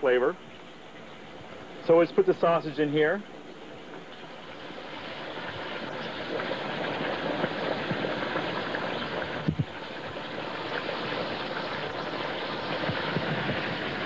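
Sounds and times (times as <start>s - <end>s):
water boiling in a pot: 0.0s - 14.0s.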